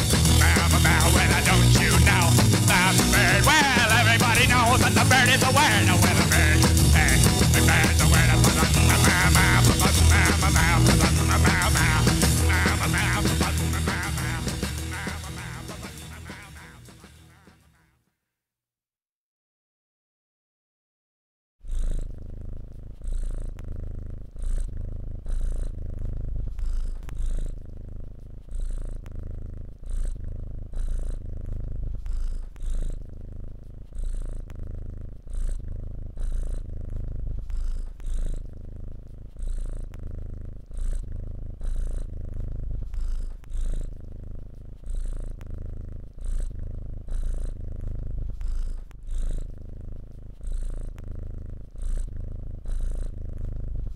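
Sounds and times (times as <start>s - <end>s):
kitten purring: 0.0s - 18.0s, 21.6s - 53.9s.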